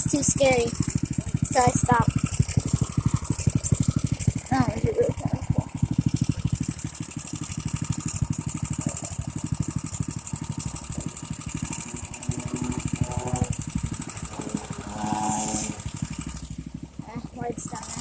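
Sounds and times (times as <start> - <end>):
small petrol engine idling: 0.0 - 18.0.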